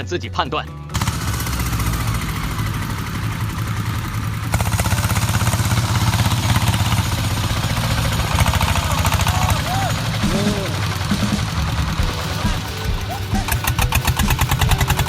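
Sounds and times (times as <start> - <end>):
farm vehicle engine running: 0.6 - 15.0.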